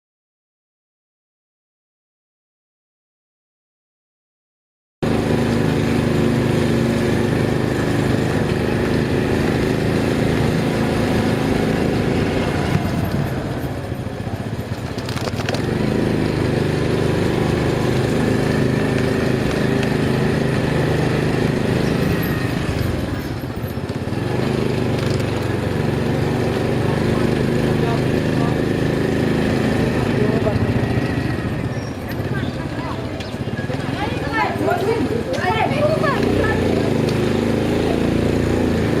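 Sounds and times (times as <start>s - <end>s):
motorcycle engine running: 5.0s - 39.0s.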